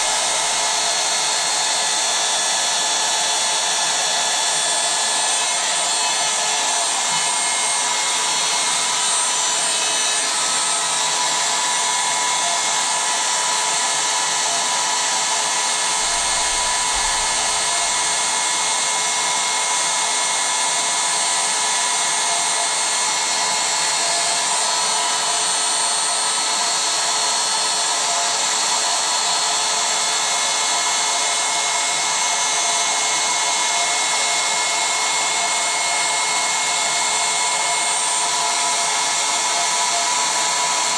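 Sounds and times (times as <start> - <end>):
electric air pump whining: 0.0 - 40.9.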